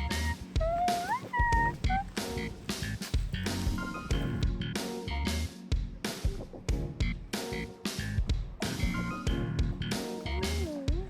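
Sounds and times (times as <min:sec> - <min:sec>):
steady drum beat: 0:00.0 - 0:04.7, 0:05.7 - 0:11.0.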